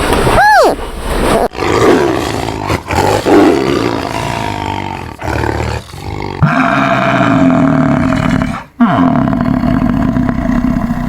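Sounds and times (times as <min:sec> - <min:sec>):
big cat roaring: 0:01.6 - 0:11.0.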